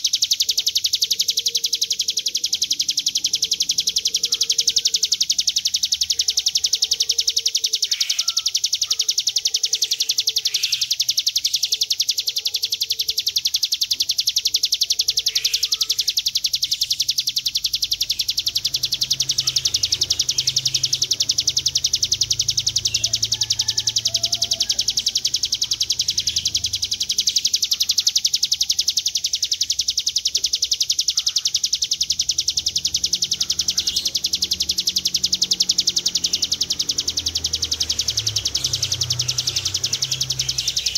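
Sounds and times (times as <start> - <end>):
bird buzzing trill: 0.0 - 40.9.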